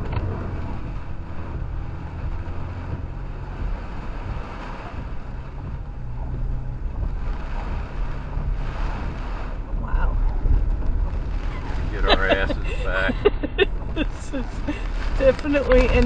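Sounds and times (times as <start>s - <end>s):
road and tyre noise: 0.0s - 16.0s
truck engine rumble: 0.0s - 16.0s.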